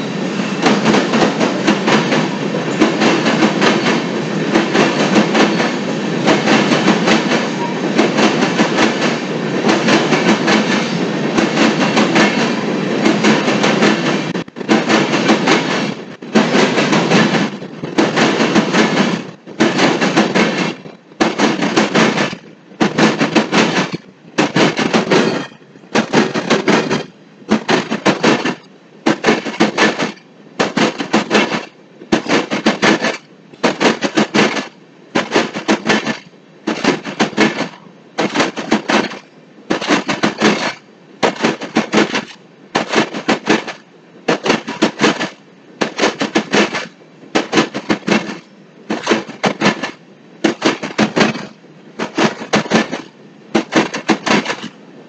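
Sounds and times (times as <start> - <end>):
freight cars clattering over track: 0.6 - 54.8.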